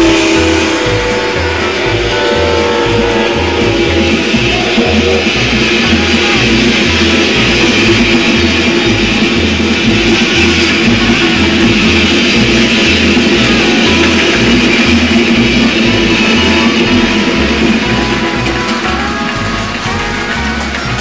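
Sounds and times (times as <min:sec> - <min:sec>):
guitar music with bass line: 0:00.0 - 0:21.0.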